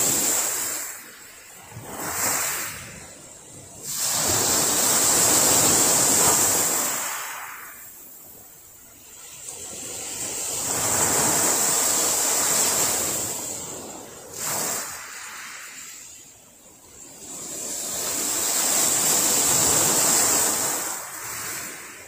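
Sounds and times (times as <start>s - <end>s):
waves washing on gravel beach: 0.0s - 22.0s.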